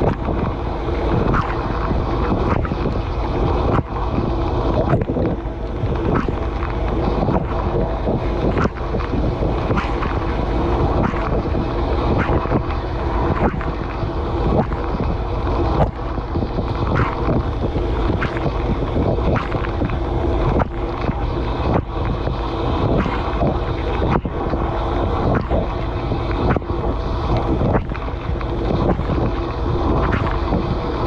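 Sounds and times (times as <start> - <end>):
sharp water jet splats: 0.0 - 31.0
water spraying inside dishwasher: 0.0 - 31.0.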